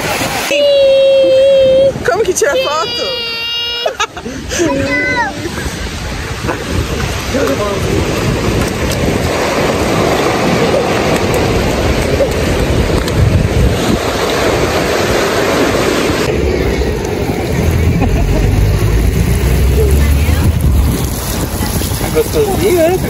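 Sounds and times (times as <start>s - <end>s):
ocean surf washing on sand: 0.0s - 23.0s
wind on microphone: 0.0s - 23.0s.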